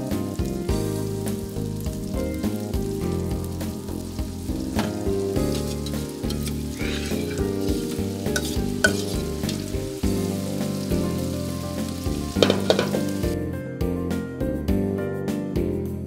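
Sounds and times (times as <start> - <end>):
food sizzling in a skillet: 0.0 - 13.4
background guitar music: 0.0 - 16.0.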